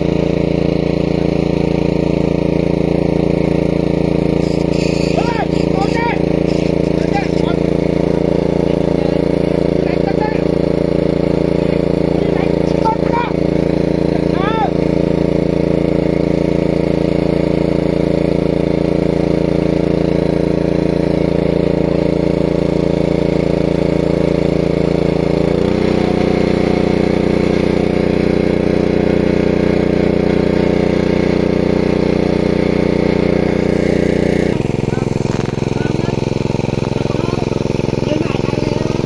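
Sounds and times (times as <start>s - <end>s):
water pump engine running: 0.0s - 39.0s.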